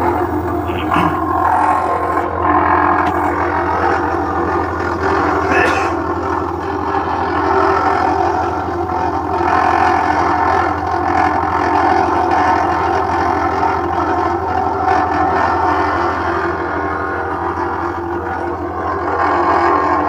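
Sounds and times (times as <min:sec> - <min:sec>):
low hum: 0:00.0 - 0:20.0
washing machine mechanical noise: 0:00.0 - 0:20.0.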